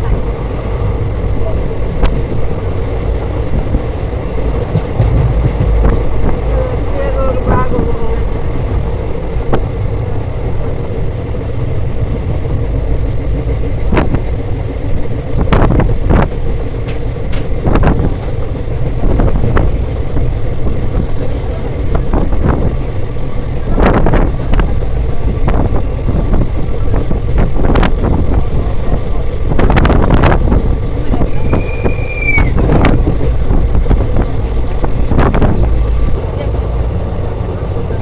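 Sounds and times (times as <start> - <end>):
train knocks and clanks: 0.0 - 38.0
train rumbling: 0.0 - 38.0.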